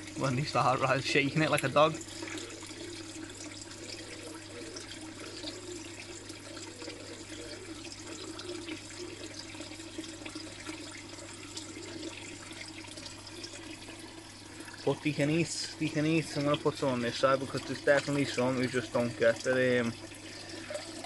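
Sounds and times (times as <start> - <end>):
water splashing into tank: 0.0 - 21.0.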